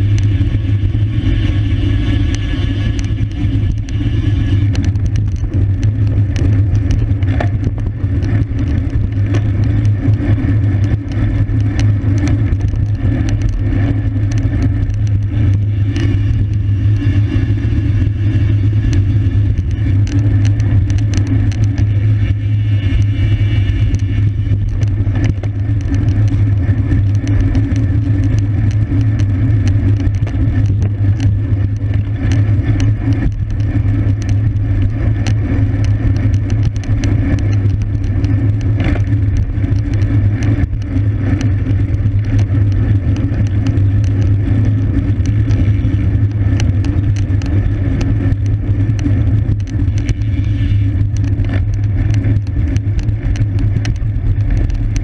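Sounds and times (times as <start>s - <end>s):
bicycle clicks and rattles: 0.0s - 55.0s
wind and road rumble: 0.0s - 55.0s.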